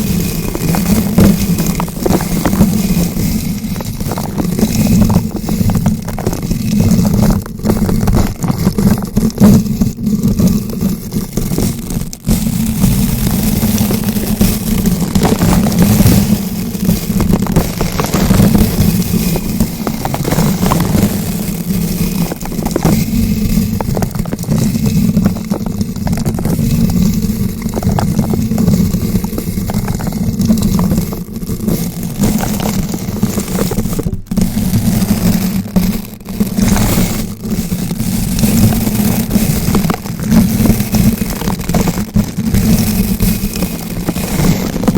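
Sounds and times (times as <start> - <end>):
low rumble of rubbed mic: 0.0 - 44.9.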